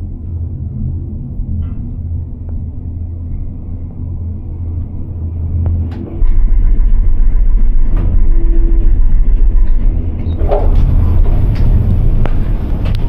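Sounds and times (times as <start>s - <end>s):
gondola cabin rumble: 0.0s - 13.0s.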